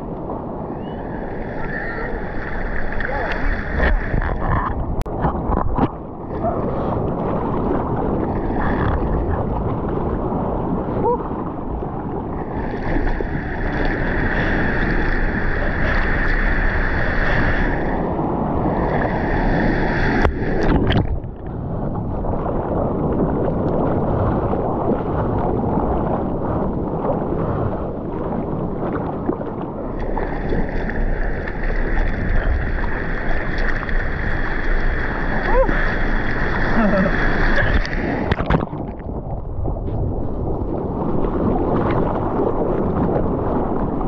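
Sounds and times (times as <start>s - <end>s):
sea water sloshing and splashing: 0.0s - 44.0s.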